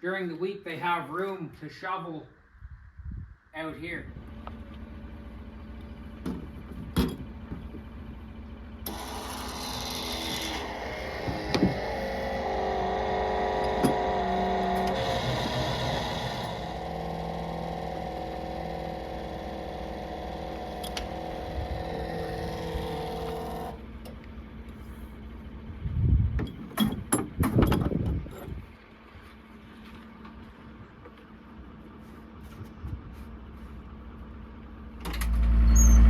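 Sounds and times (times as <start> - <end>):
skid steer engine running: 4.1 - 36.0.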